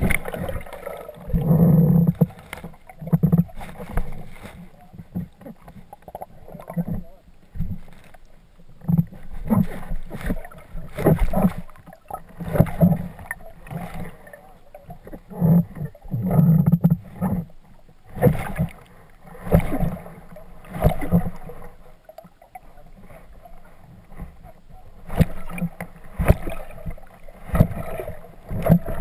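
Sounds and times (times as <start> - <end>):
water sloshing and gurgling: 0.0 - 29.0.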